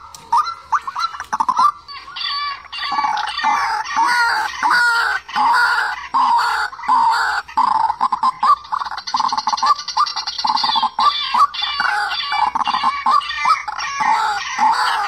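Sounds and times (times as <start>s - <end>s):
bird calling harsh notes: 0.0s - 15.0s.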